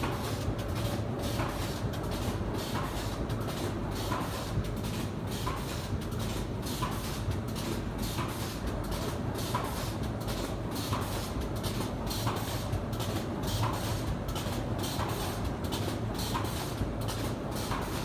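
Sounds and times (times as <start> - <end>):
machine knocking: 0.0 - 18.0.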